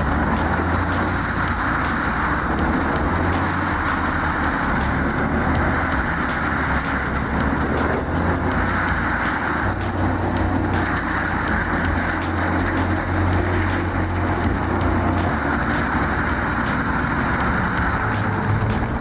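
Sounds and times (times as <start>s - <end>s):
heavy machine engine running: 0.0s - 19.0s
rushing grinding noise: 0.0s - 19.0s.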